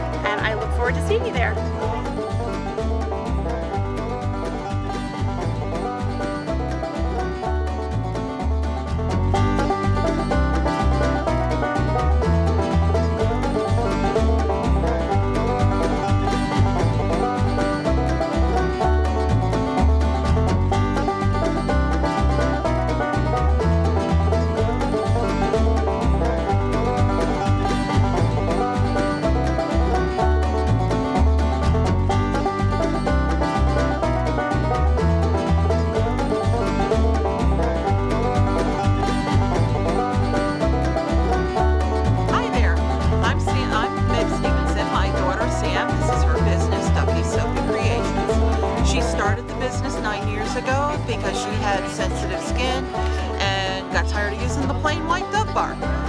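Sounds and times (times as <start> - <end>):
bluegrass banjo music: 0.0 - 56.0
steady bass beat: 0.0 - 56.0.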